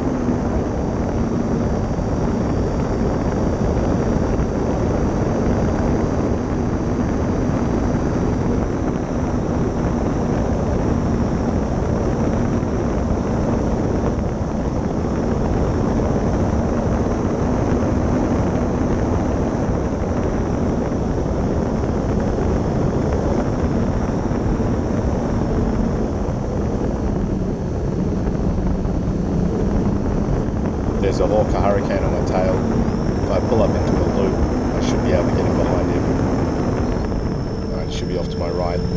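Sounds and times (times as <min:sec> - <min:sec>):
high electric fan whine: 0:00.0 - 0:38.9.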